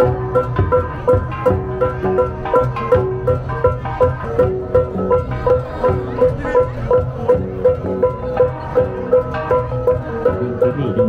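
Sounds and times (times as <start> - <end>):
gong ensemble playing: 0.0 - 11.0
high gong beating steadily: 0.0 - 11.0.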